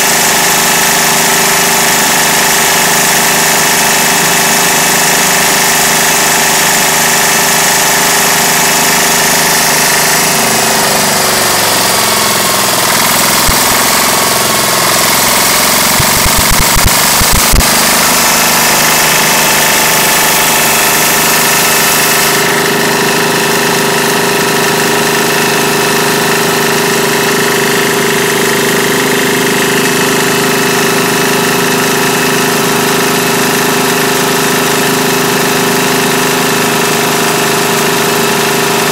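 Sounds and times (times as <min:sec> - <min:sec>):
diesel engine clattering: 0:00.0 - 0:38.9.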